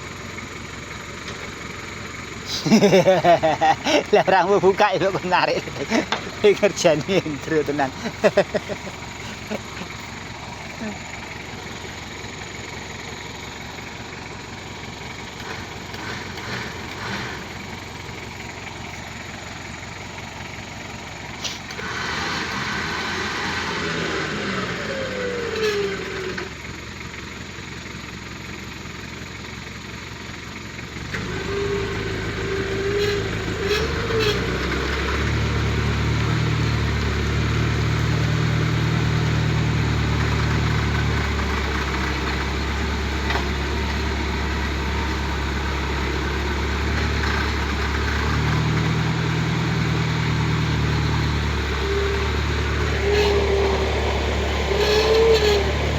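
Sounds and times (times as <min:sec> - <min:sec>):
truck engine droning: 0:00.0 - 0:55.9.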